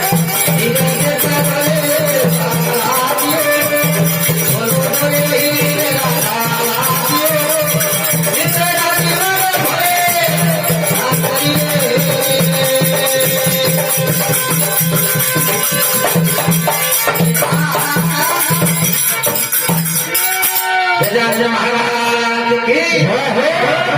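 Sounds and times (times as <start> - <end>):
jingling rattling percussion: 0.0 - 21.9.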